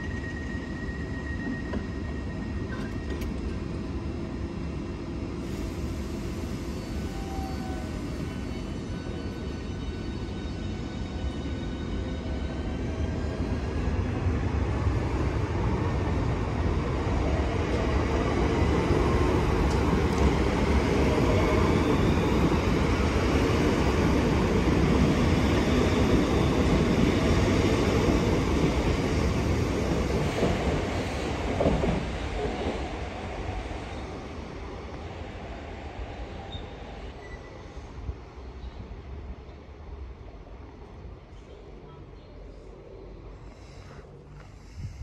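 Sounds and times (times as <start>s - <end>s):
train wheel and rail rumble: 0.0s - 45.0s.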